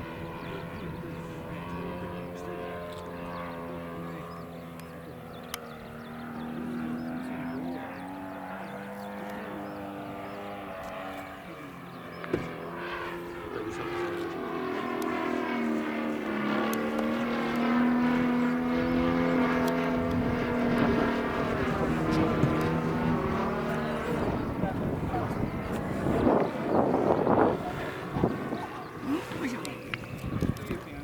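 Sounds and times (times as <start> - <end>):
model airplane motor droning: 0.0 - 31.0.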